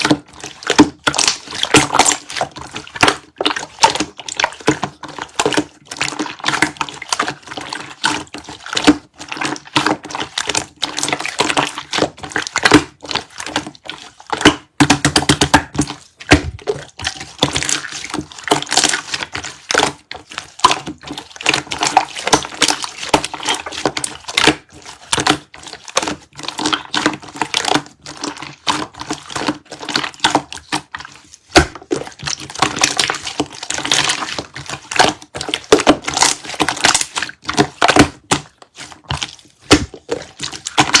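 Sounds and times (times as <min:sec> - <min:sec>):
slime squished by hand: 0:00.0 - 0:41.0.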